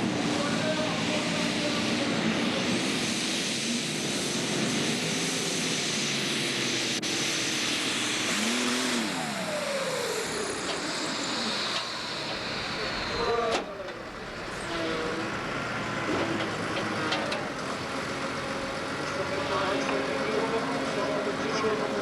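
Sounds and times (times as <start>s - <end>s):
high whine sliding downward: 0.0s - 22.0s
tractor engine running flat out: 0.0s - 22.0s.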